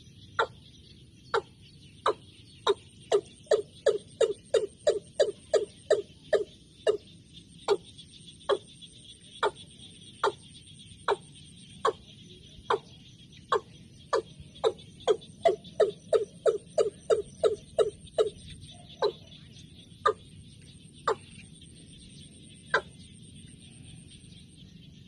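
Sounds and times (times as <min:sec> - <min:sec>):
high insect trill: 0:02.1 - 0:25.0.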